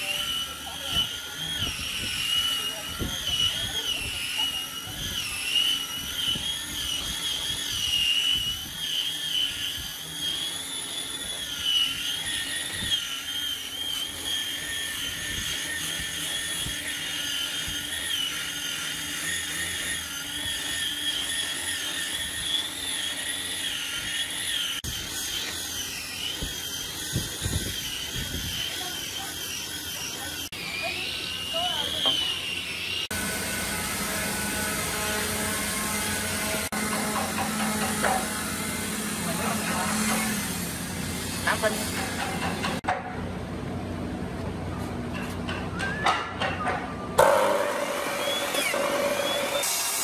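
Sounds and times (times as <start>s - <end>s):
angle grinder sanding wood: 0.0s - 42.9s, 47.2s - 50.0s.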